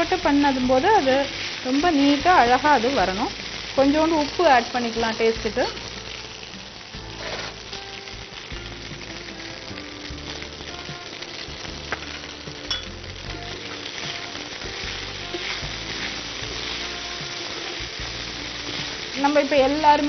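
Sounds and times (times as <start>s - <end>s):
rice sizzling in hot oil: 0.0s - 20.0s.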